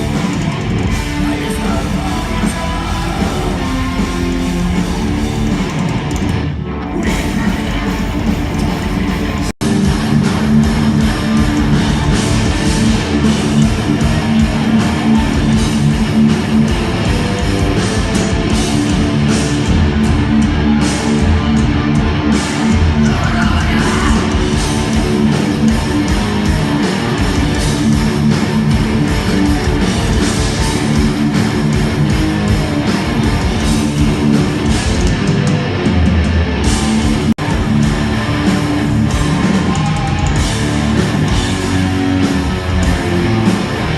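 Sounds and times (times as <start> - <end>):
heavy metal music: 0.0 - 43.9.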